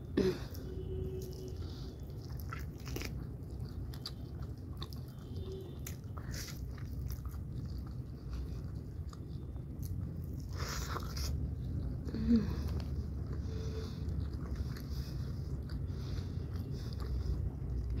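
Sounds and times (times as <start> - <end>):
person chewing chicken wing: 1.1 - 18.0.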